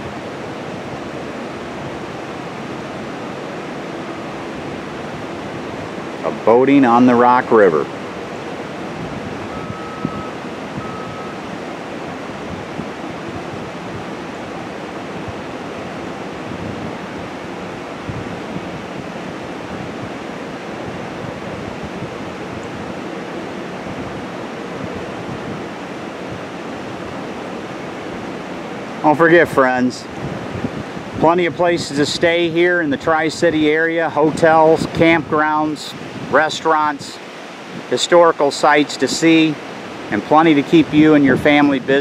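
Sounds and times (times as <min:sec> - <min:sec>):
wind on microphone: 0:00.0 - 0:38.0, 0:38.9 - 0:42.0.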